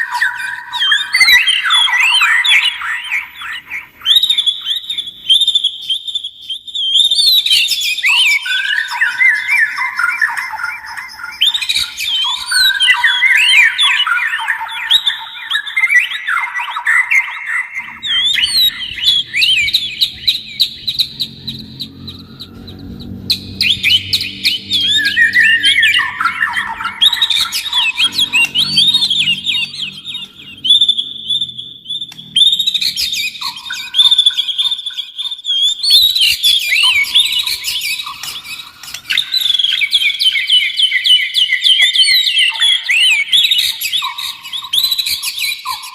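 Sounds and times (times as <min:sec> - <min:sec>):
songbird whistling and trilling: 0:00.0 - 0:45.9.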